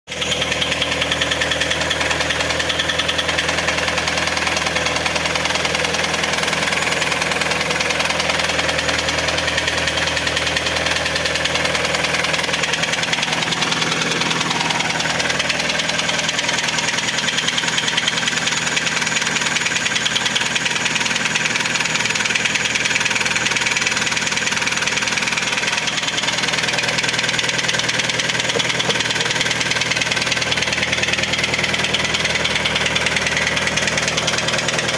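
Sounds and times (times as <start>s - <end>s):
car engine idling: 0.1s - 34.9s
heavy rapid engine knocking: 0.1s - 34.9s.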